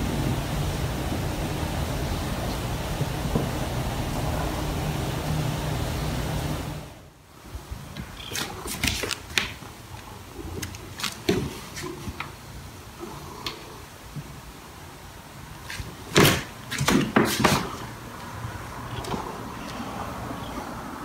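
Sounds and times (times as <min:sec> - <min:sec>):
low hum and hiss: 0:00.0 - 0:21.0.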